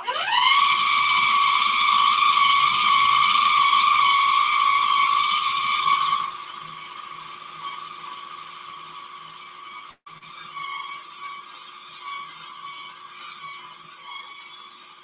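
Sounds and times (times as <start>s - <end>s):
food processor motor whining: 0.0s - 15.0s.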